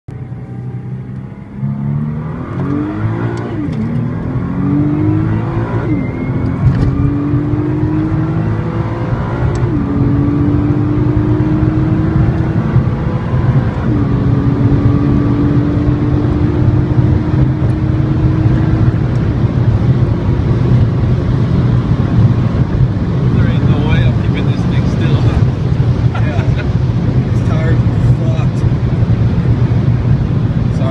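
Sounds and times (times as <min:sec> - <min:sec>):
car engine accelerating: 0:00.1 - 0:30.9
wind and road noise: 0:00.1 - 0:30.9.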